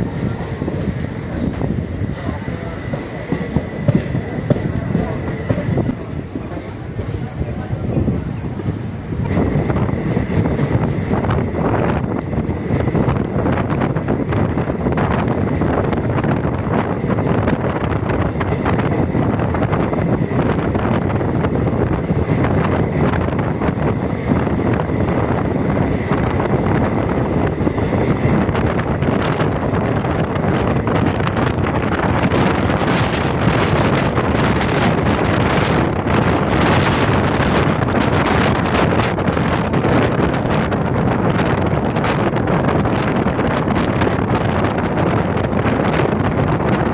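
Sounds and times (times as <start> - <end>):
train wheels rumbling on rails: 0.0 - 46.9
wind buffeting microphone: 0.0 - 46.9.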